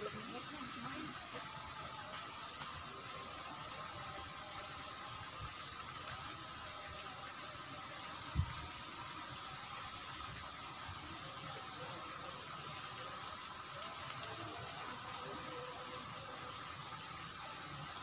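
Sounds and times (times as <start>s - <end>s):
shallow water flowing in ditch: 0.0s - 18.0s.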